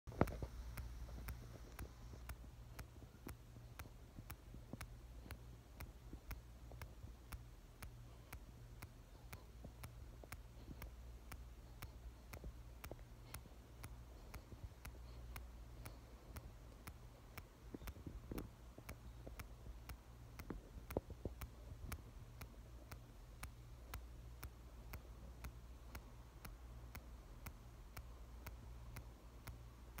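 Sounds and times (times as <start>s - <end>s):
heart valve clicking: 0.1s - 30.0s
low steady hum: 0.1s - 30.0s.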